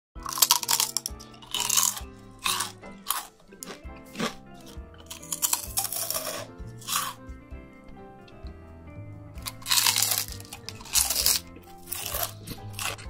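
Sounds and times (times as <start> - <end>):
crunchy chewing: 0.2 - 7.2, 9.4 - 13.0
background music: 0.2 - 13.0.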